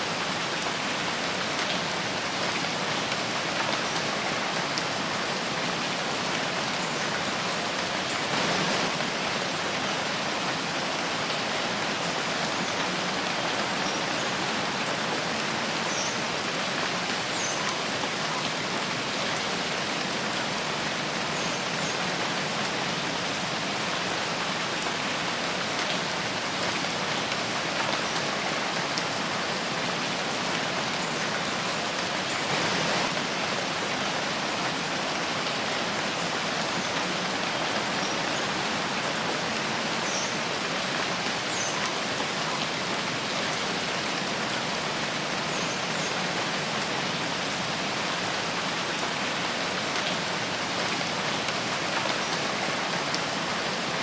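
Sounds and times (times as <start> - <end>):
steady rain in forest: 0.0 - 54.0.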